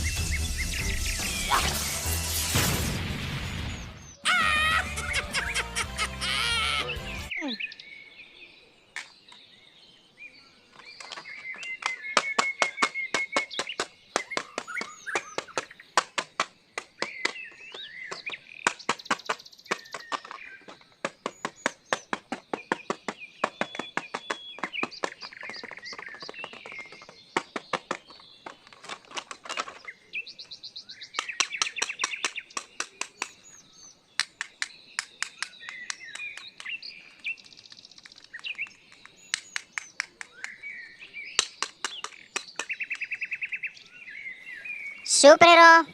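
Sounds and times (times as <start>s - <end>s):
birds chirping: 0.0s - 2.1s, 3.3s - 45.9s.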